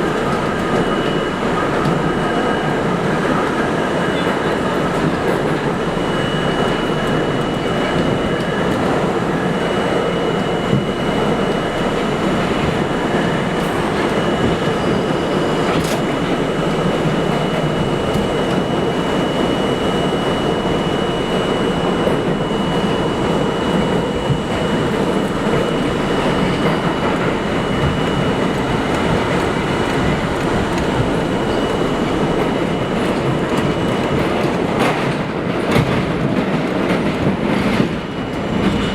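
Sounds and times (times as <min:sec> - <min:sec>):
subway train rumbling and rattling: 0:00.0 - 0:38.9.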